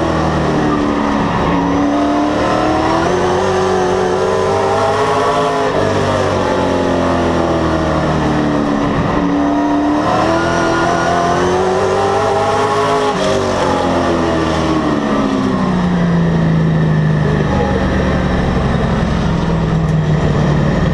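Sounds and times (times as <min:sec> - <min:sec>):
race car engine revving: 0:00.0 - 0:20.9.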